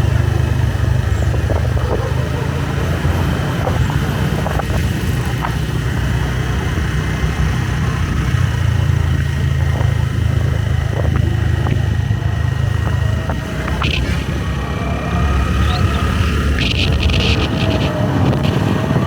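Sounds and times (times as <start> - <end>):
motorbike engine rumble: 0.0 - 19.0.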